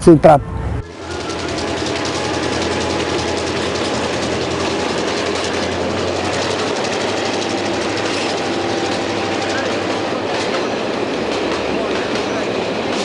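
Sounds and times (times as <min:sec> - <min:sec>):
diesel locomotive engine hum: 0:00.0 - 0:13.0
train wheels on rails: 0:00.8 - 0:13.0.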